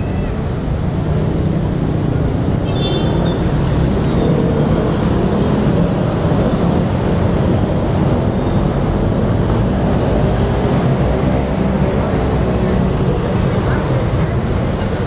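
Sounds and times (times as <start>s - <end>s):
motorcycles and cars passing: 0.0s - 15.0s.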